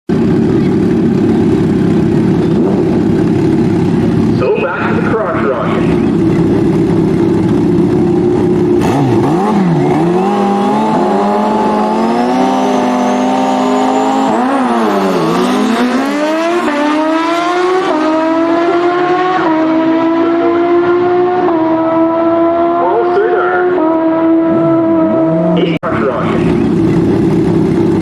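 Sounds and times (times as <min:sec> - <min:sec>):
motorcycle engine revving: 0:00.1 - 0:28.0.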